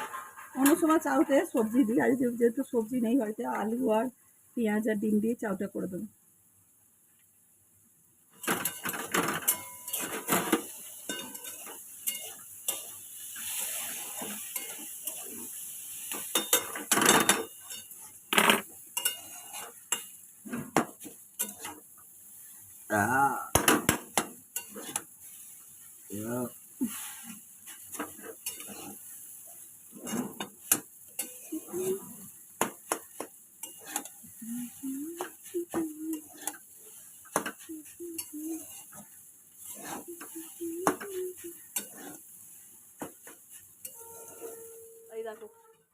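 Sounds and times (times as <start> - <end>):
utensil scraping in a pan: 0.0 - 2.0, 8.4 - 22.7, 24.0 - 45.4
food sizzling: 0.0 - 45.8.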